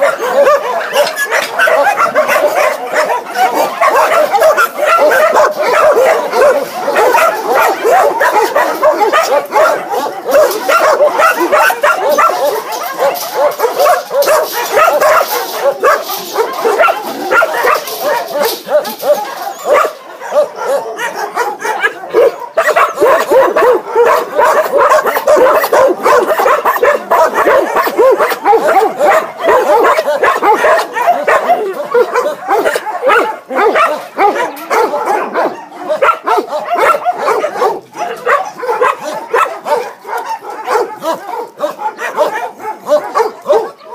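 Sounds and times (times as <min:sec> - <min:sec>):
many dogs barking: 0:00.0 - 0:43.9.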